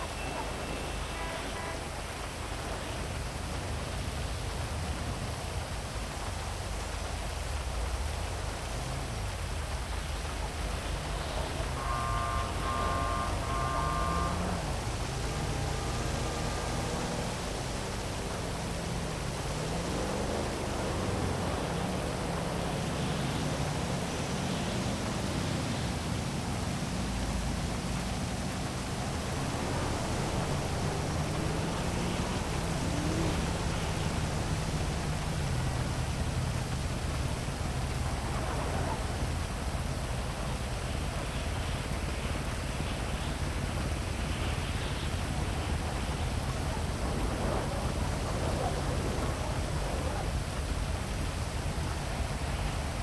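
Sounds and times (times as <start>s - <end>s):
heavy rain falling: 0.0s - 53.0s
hum of traffic engines: 0.0s - 53.0s.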